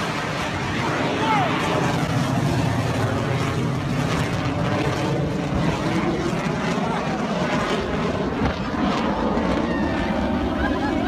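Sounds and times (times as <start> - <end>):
jet aircraft flying overhead: 0.0 - 11.0.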